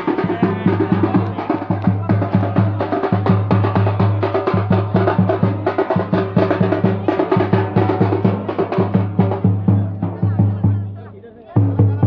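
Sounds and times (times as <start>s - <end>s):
drums beaten with sticks: 0.0s - 11.0s, 11.6s - 12.0s.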